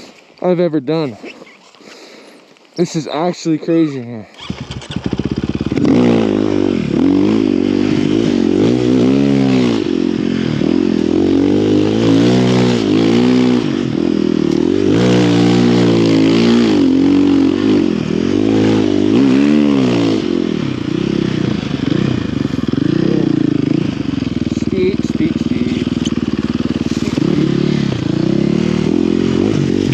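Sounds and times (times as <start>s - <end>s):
motorbike engine revving: 3.7s - 29.9s.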